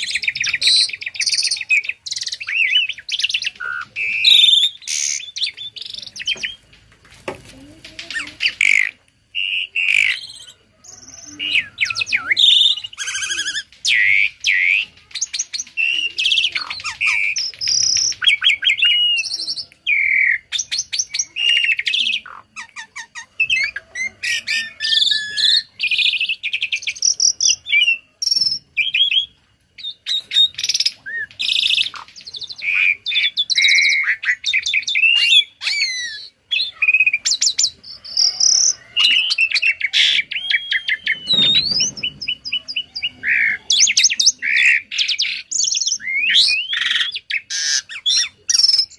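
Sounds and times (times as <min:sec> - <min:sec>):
starling singing: 0:00.0 - 0:48.9.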